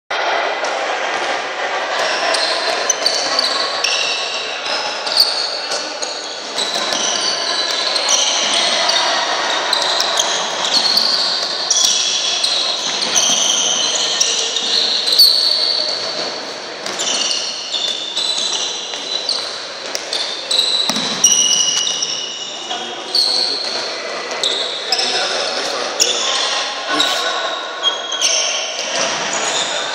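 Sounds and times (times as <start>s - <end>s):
players calling in echoing hall: 0.1s - 29.9s
shoes squeaking on wooden court: 2.2s - 27.3s.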